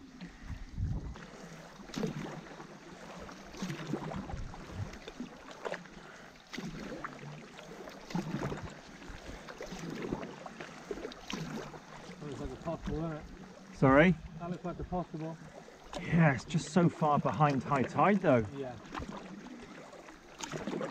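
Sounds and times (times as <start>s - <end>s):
paddles splashing in water: 0.0s - 20.9s.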